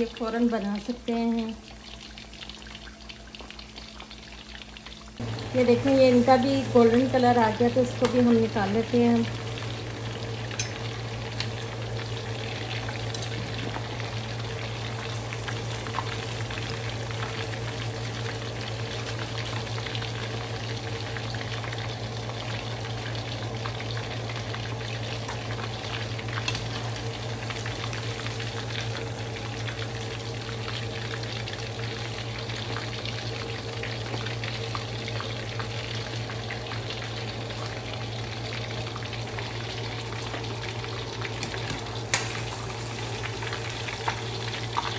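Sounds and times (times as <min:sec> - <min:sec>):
chicken deep-frying in oil: 0:00.0 - 0:44.9.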